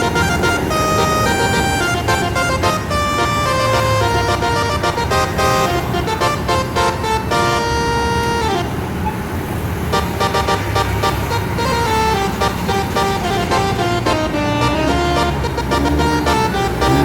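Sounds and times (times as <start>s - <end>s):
multi-tone air horn tune: 0.0s - 8.8s, 9.9s - 17.0s
engine rumble: 0.0s - 17.0s.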